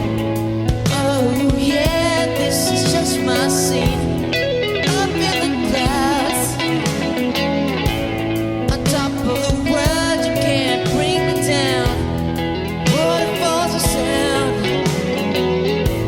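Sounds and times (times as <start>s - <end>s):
pop-rock song with guitar: 0.0s - 16.0s.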